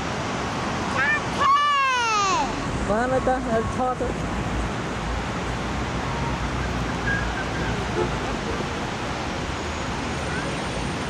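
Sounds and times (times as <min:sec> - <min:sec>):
city street noise: 0:00.0 - 0:11.0.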